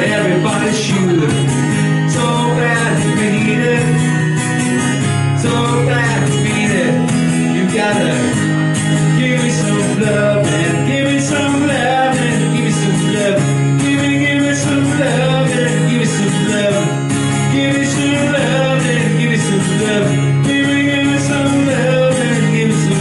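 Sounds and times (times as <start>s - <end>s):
acoustic guitar strumming: 0.0s - 23.0s
man singing into a microphone: 0.0s - 23.0s.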